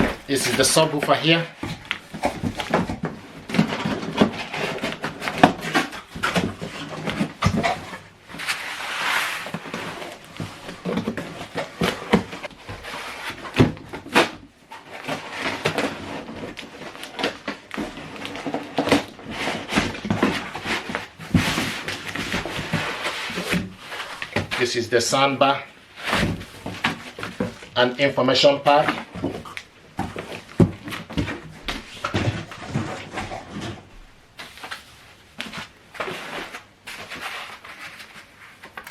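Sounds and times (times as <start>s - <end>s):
packaging rustling and scraping: 0.0s - 38.9s.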